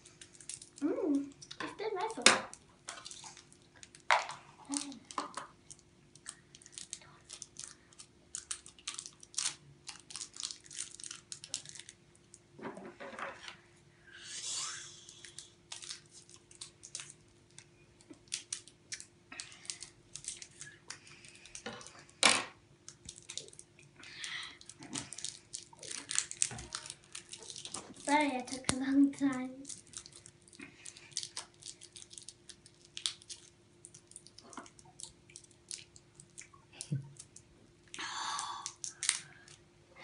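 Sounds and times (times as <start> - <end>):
plastic wrapper crinkling: 0.0 - 12.4, 15.1 - 22.2, 22.8 - 37.5, 38.6 - 39.6.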